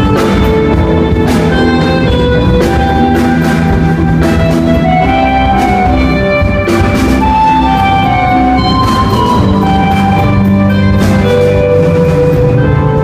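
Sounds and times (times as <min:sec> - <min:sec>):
bass guitar: 0:00.0 - 0:13.0
drum kit with cymbal hits: 0:00.0 - 0:13.0
guitar melody: 0:00.0 - 0:13.0
sustained keyboard notes: 0:00.0 - 0:13.0.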